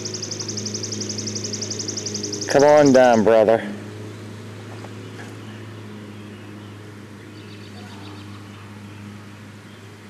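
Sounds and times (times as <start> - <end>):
faint outdoor background noise: 0.0 - 10.0
steady low hum: 0.0 - 10.0.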